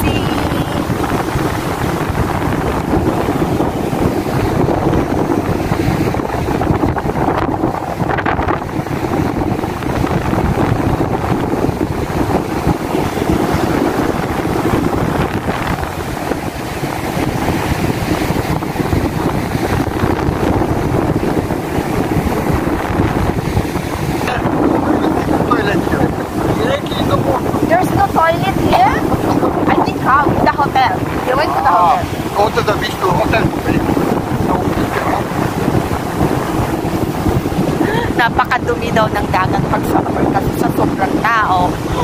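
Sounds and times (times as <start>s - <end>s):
surf breaking on beach: 0.0s - 42.0s
wind buffeting microphone: 0.0s - 42.0s.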